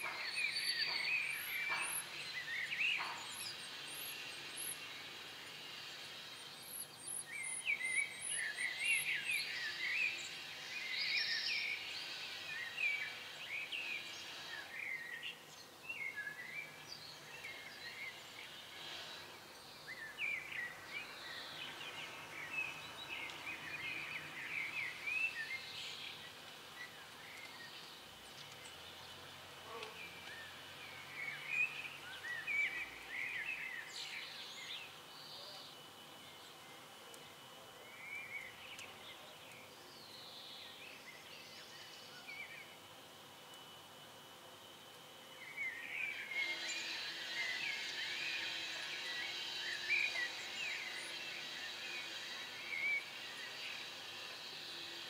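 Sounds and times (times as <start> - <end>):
faint background noise: 0.0 - 55.0
small birds chirping: 0.0 - 55.0.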